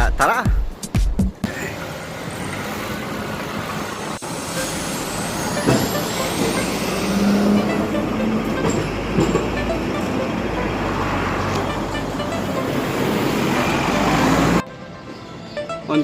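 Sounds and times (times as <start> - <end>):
city road traffic: 0.0 - 16.0
steady engine hum: 1.4 - 16.0
trucks passing: 1.4 - 16.0.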